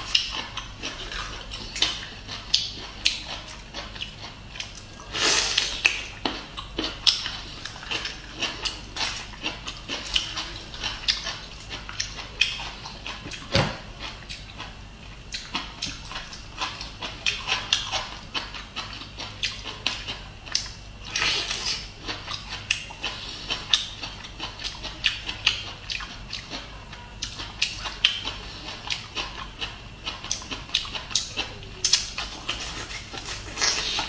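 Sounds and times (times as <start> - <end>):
wet crunching and chewing: 0.0 - 34.0.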